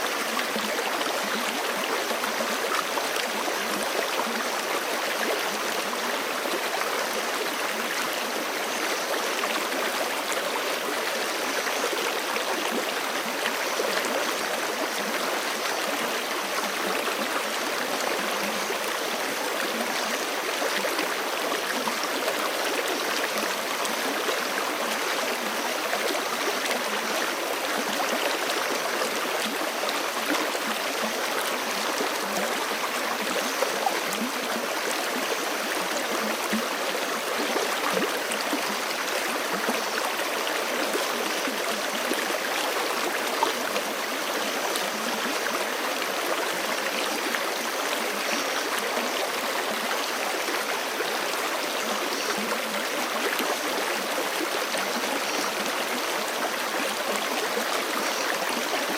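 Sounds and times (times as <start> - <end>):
creek flowing over rocks: 0.0 - 58.9.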